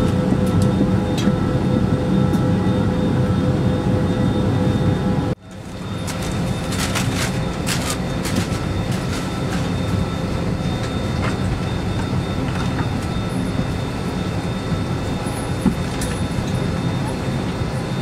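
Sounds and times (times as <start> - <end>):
faint whining tones: 0.0 - 18.0.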